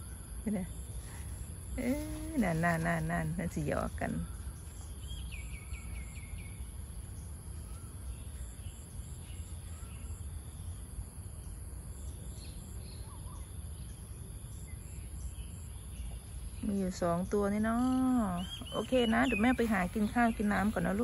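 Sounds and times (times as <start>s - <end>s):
bird chirps: 0.0s - 10.8s, 12.0s - 21.0s
insect drone: 0.0s - 21.0s.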